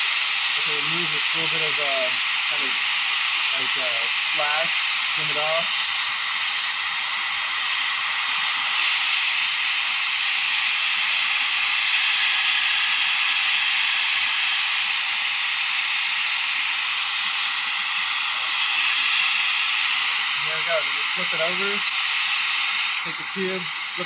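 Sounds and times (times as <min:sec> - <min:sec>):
shop vacuum hissing: 0:00.0 - 0:24.0.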